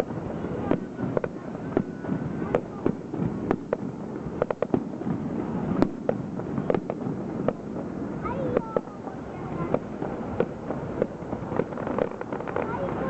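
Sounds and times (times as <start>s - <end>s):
firework shells bursting: 0.0s - 13.0s
steady background noise: 0.0s - 13.0s.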